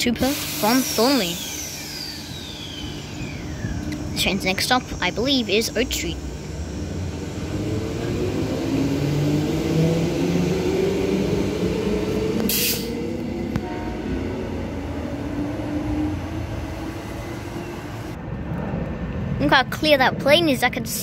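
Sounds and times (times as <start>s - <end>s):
electric train motors whining: 0.0s - 18.2s
train rumble: 0.0s - 21.0s.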